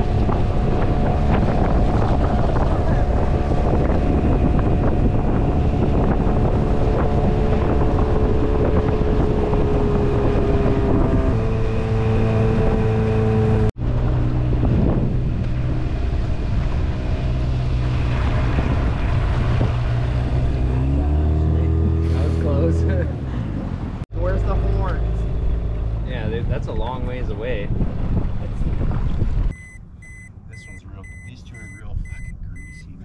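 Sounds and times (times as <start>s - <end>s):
wind buffeting microphone: 0.0s - 22.0s, 25.3s - 30.2s
boat motor running: 0.0s - 33.0s.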